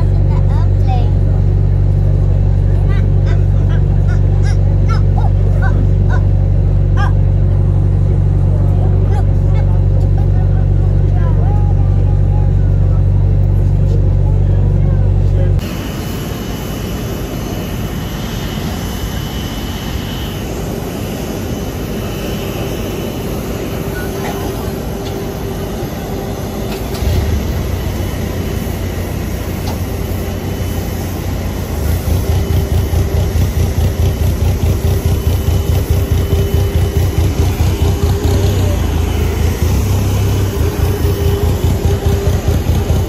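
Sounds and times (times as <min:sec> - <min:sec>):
deep tug engine rumble pulsing: 0:00.0 - 0:43.0
machinery hum: 0:00.0 - 0:43.0.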